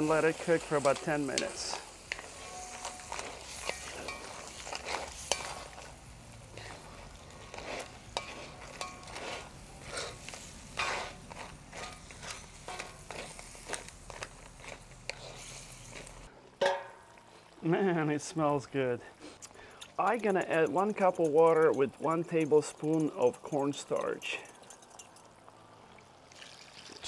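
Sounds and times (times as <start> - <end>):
shell scraping against wok: 0.0 - 17.1, 19.2 - 25.4
light sizzle: 0.0 - 27.0.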